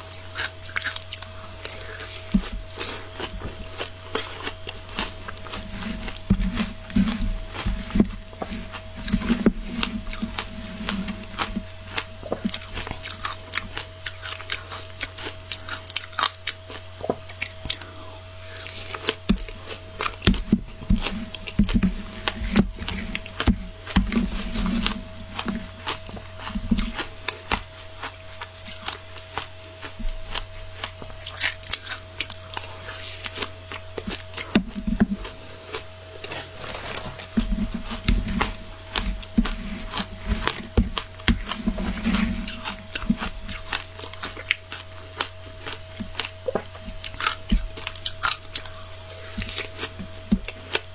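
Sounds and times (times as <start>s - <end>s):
crunching shaved ice in mouth: 0.0s - 50.9s.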